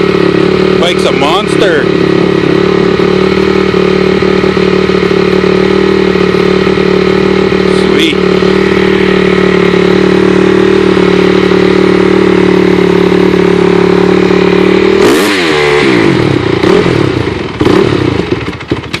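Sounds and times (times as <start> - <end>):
dirt bike engine idling and revving: 0.0 - 19.0.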